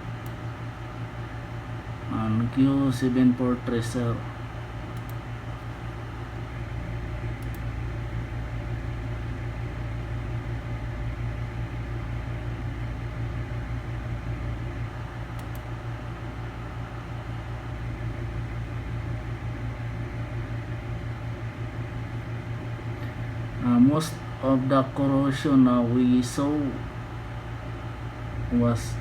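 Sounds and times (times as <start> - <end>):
low hum with fan-like hiss: 0.0 - 29.0.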